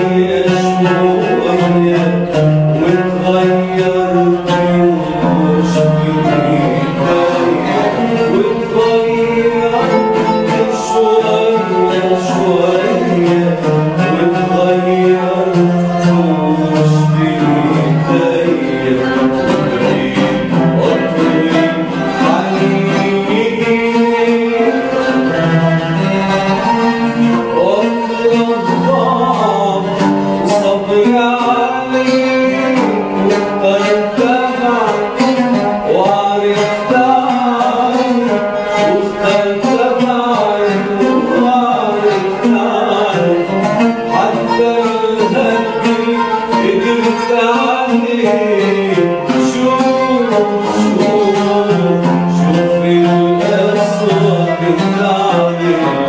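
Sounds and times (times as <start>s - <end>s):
man singing: 0.0s - 56.0s
oud playing: 0.0s - 56.0s
qanun playing: 0.0s - 56.0s.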